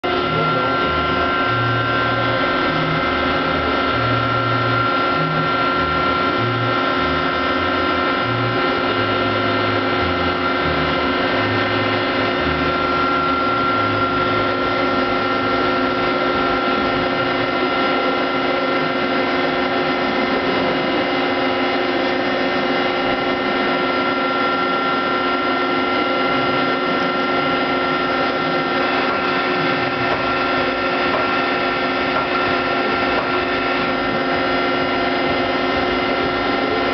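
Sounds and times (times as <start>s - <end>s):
lathe whining: 0.0s - 36.9s.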